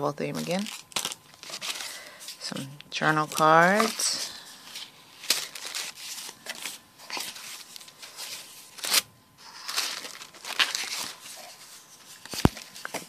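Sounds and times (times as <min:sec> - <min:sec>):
packaging crinkling and rustling: 0:00.3 - 0:02.6, 0:03.2 - 0:13.0.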